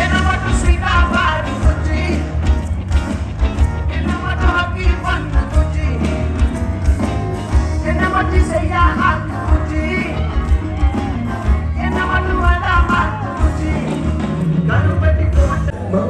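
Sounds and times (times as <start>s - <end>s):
band music with singer: 0.0s - 16.0s
heavy bass and drum beat: 0.0s - 16.0s.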